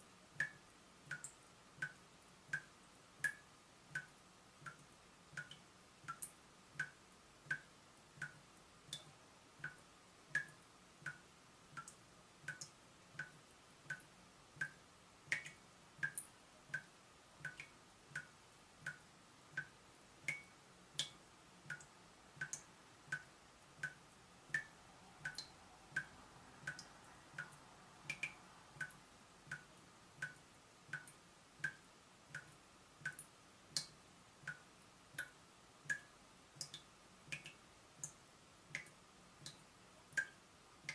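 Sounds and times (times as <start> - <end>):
water dripping from a tap: 0.3 - 40.9.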